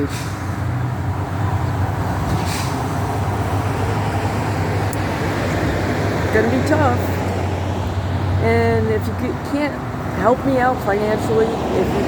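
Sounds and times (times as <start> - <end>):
vehicle running rumble with hiss: 0.0 - 12.0.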